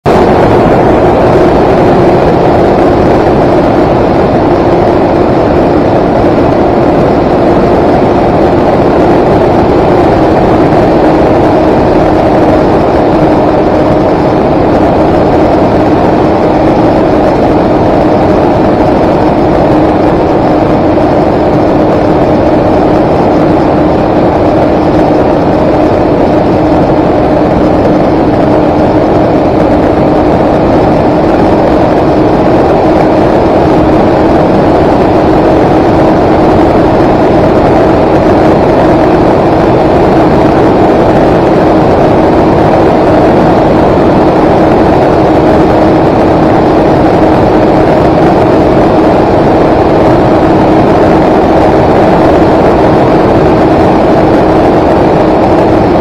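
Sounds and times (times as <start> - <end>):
drone motor and propeller hum: 0.0 - 56.0
wind rush: 0.0 - 56.0.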